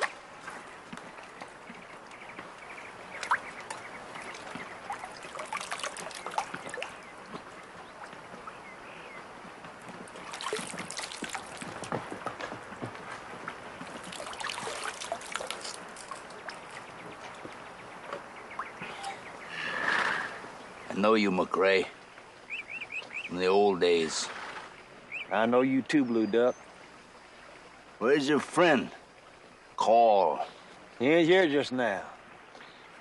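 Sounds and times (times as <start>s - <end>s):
river water splashing and trickling: 0.0s - 33.0s.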